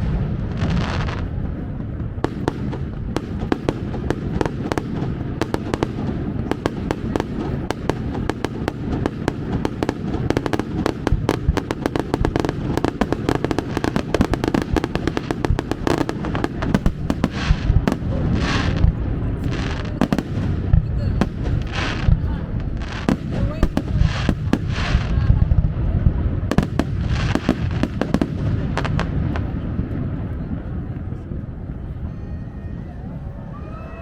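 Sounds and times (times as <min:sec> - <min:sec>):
firework crackling pops: 0:00.0 - 0:30.5
firework booms: 0:00.0 - 0:31.2.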